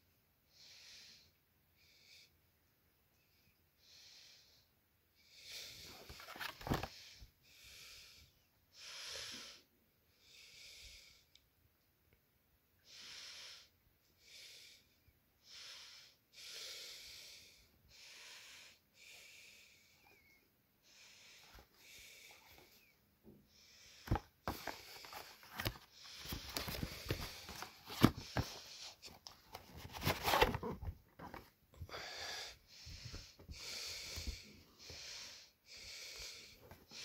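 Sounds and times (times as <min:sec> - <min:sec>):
person breathing: 0:00.5 - 0:02.4, 0:03.5 - 0:11.4, 0:12.8 - 0:37.0.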